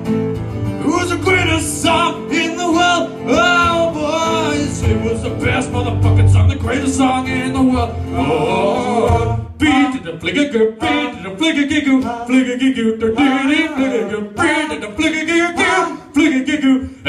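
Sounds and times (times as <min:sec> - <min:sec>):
acoustic guitar: 0:00.0 - 0:17.0
man singing: 0:00.8 - 0:17.0.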